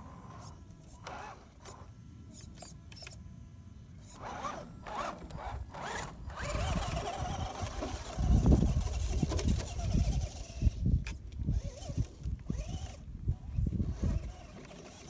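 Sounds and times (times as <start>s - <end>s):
electric motor and gearbox whining: 0.0s - 15.0s.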